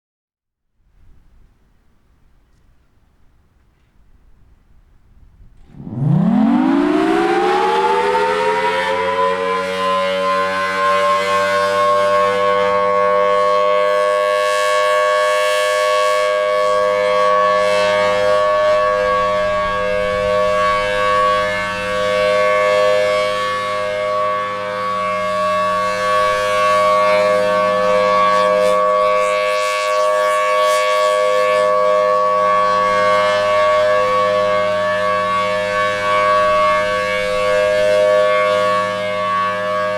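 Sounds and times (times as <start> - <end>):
warning siren winding up: 5.6 - 39.9.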